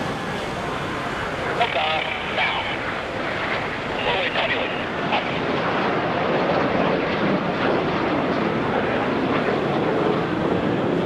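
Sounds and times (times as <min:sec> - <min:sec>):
jet flying overhead: 0:00.0 - 0:11.0.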